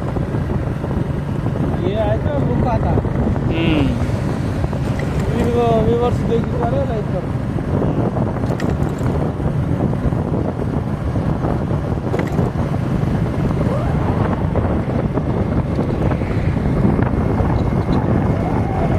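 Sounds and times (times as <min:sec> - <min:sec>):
road noise: 0:00.0 - 0:18.9
vehicle engine running: 0:00.0 - 0:18.9
wind buffeting microphone: 0:00.0 - 0:18.9.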